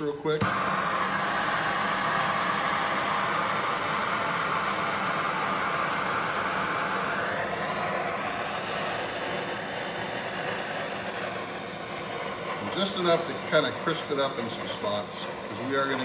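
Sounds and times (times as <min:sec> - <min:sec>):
propane torch hissing: 0:00.2 - 0:16.0.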